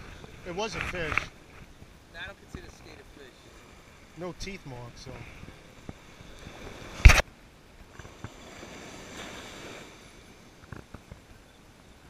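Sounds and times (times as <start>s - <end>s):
faint wind: 0.0s - 12.0s
ocean surf: 0.0s - 12.0s.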